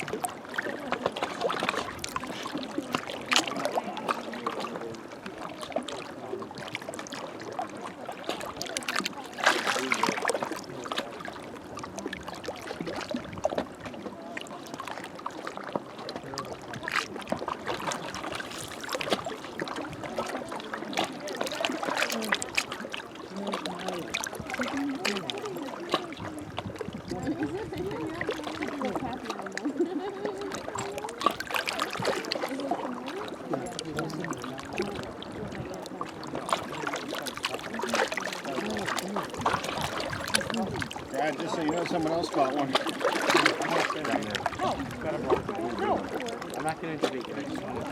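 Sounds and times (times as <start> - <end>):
people talking faintly: 0.0 - 47.9
waves lapping against rocks: 0.0 - 47.9.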